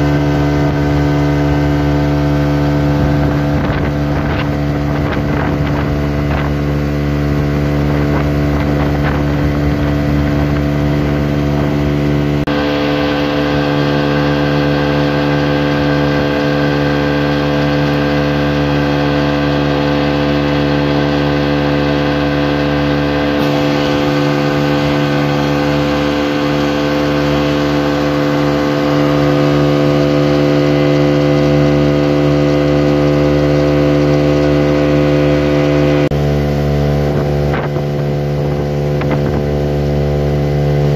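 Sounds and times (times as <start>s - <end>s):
wind buffeting microphone: 0.0s - 31.9s, 36.7s - 40.3s
outboard motor running: 0.0s - 40.9s.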